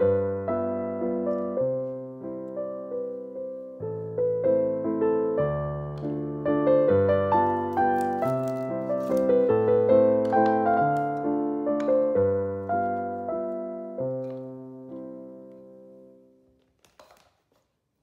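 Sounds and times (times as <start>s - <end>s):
solo piano music: 0.0s - 16.7s.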